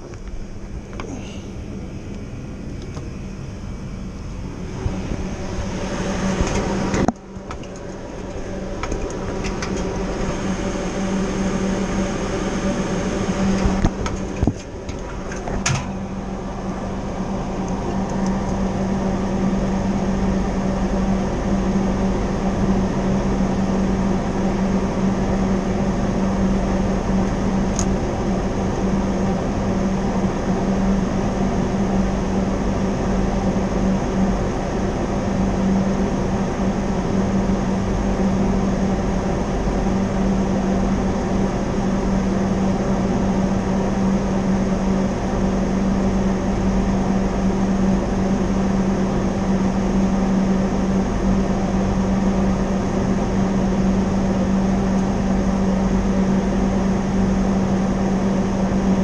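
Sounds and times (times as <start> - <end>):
refrigeration machine hum: 0.0 - 59.0.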